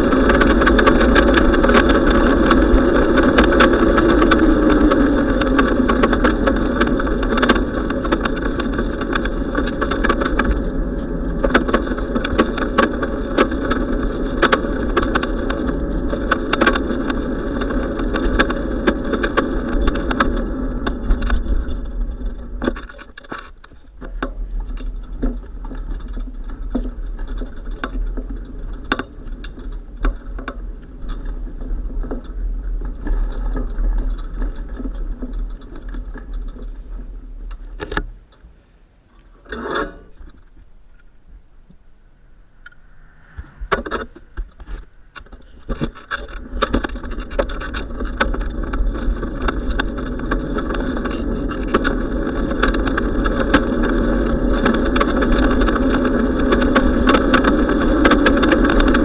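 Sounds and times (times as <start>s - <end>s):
small clicks and rattles: 0.0s - 41.2s, 42.6s - 59.0s
bicycle ride rumble and hiss: 0.0s - 59.0s.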